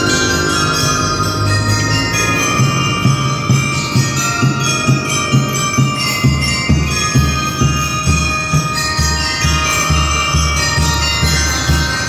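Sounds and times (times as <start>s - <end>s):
bell lyres playing melody: 0.0s - 12.0s
drums beating: 0.0s - 12.0s.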